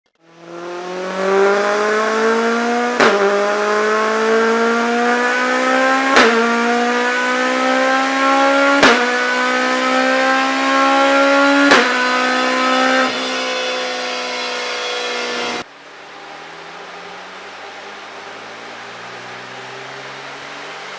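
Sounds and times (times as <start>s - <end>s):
car engine under load: 0.1s - 20.9s.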